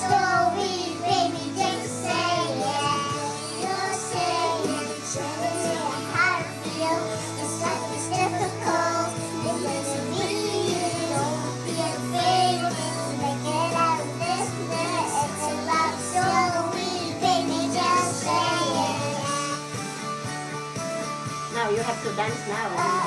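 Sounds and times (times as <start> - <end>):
girl singing into microphone: 0.0 - 19.7.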